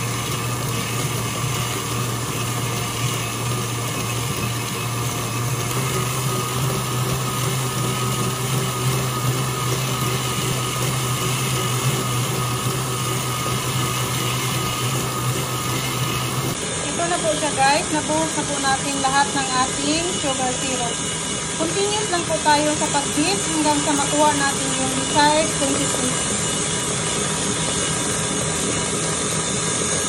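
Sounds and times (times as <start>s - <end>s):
stand mixer motor hum: 0.0s - 30.0s.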